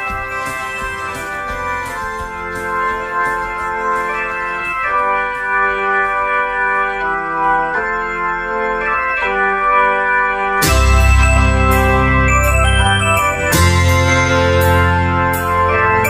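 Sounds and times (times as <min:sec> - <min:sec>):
organ-like keyboard chords: 0:00.0 - 0:16.0.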